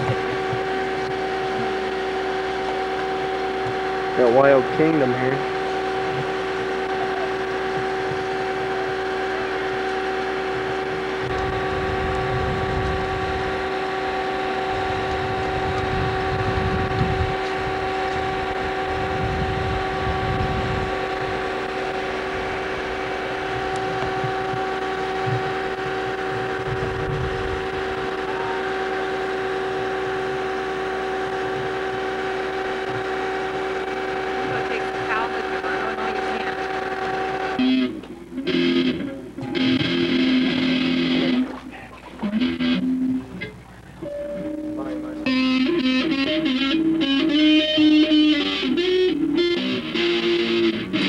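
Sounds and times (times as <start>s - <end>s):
low rumbling: 0.0s - 48.3s
machine humming: 0.0s - 51.0s.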